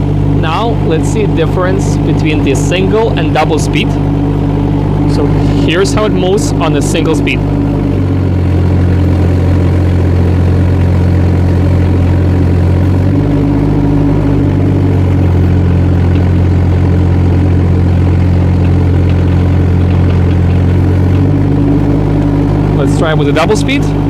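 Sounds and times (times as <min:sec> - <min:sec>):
diesel engine running: 0:00.0 - 0:24.0
excavator driving on tracks: 0:00.0 - 0:24.0.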